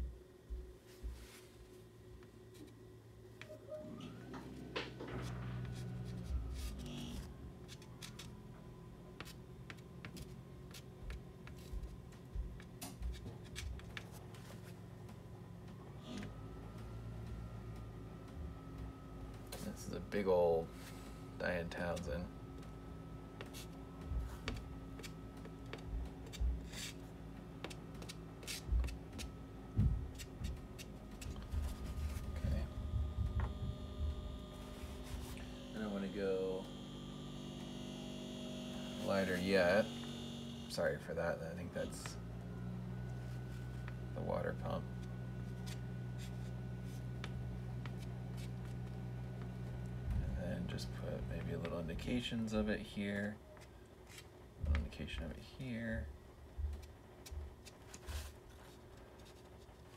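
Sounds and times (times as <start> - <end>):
low hum: 0.0 - 52.5.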